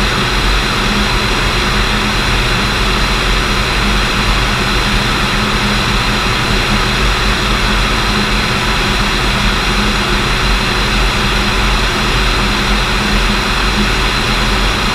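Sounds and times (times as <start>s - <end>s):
propeller plane engine droning: 0.0s - 14.9s.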